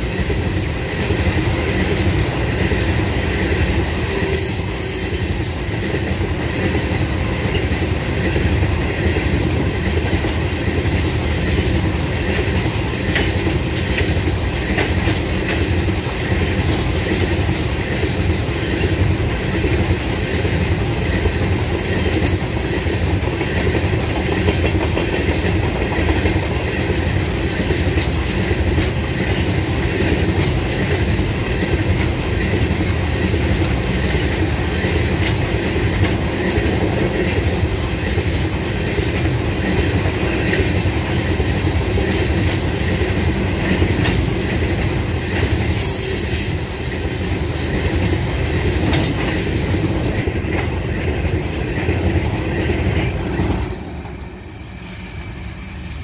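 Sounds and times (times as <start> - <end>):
wheels clacking over rail joints: 0.0 - 54.5
freight train rumbling past: 0.0 - 56.0.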